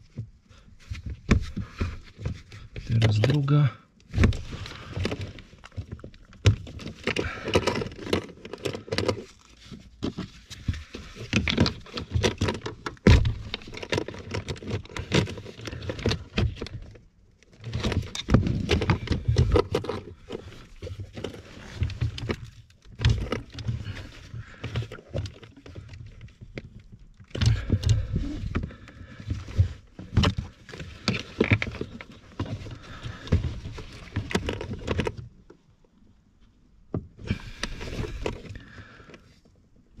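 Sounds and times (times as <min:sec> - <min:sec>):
rubber hose knocking and rubbing: 0:00.0 - 0:03.5, 0:04.1 - 0:35.3.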